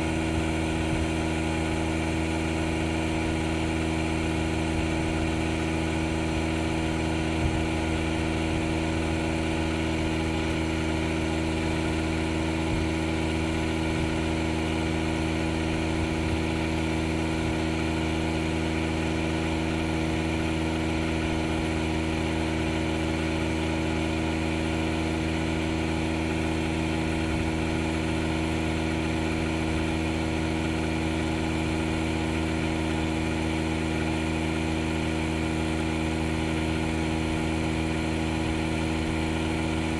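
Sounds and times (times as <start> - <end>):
air inflator running: 0.0 - 39.9.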